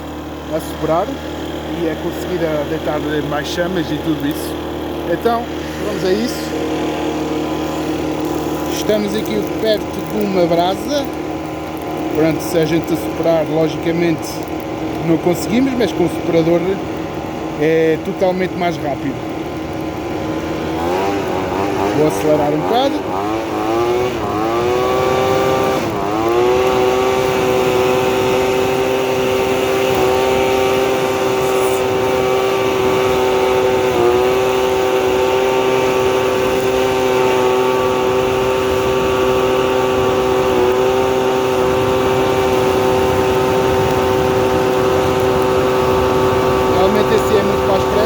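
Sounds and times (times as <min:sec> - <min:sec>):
leaf blower engine running: 0:00.0 - 0:48.0.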